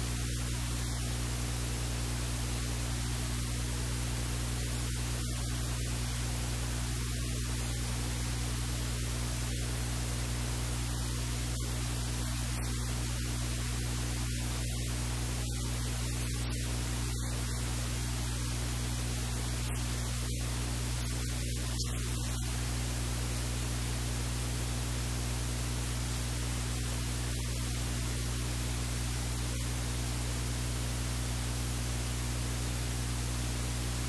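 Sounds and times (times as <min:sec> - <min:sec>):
low electrical hum: 0:00.0 - 0:34.0
static hiss: 0:00.0 - 0:34.0.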